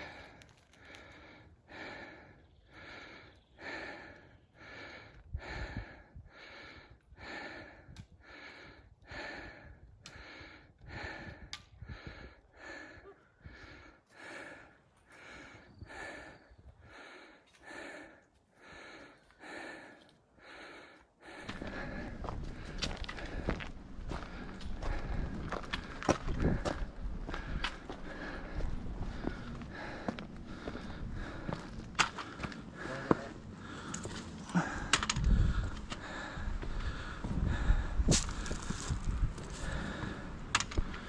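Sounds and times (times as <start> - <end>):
heavy rhythmic breathing: 0.0 - 41.0.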